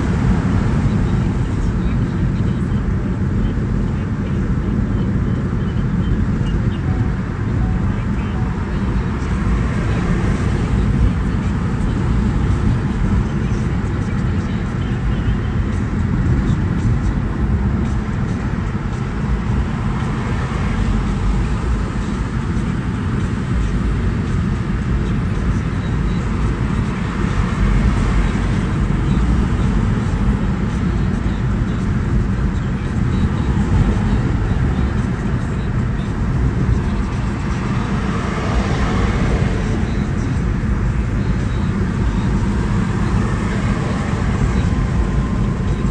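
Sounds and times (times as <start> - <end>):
car interior road rumble: 0.0 - 45.9.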